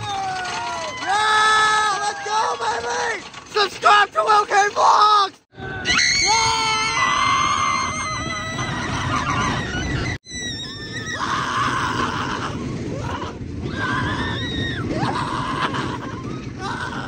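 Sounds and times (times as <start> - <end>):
riders screaming: 0.0 - 17.0
roller coaster rumble and wind: 0.0 - 17.0.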